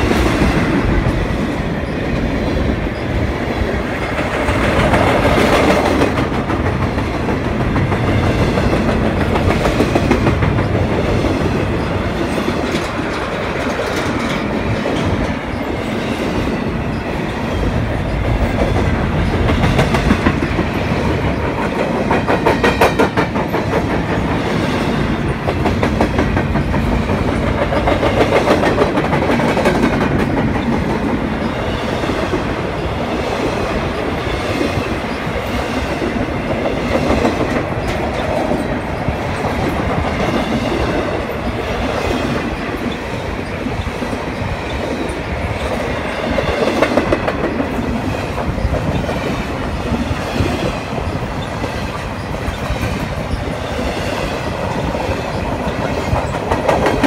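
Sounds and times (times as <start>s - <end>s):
clickety-clack over rail joints: 0.0s - 57.0s
steel wheels rumbling: 0.0s - 57.0s.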